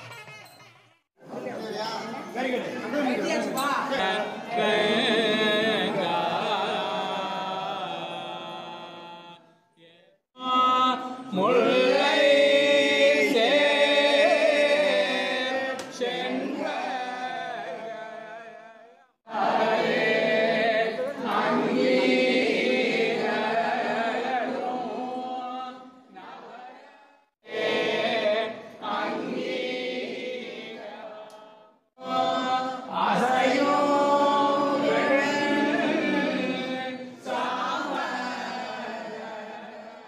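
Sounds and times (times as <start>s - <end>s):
group chanting in unison: 3.1s - 40.0s.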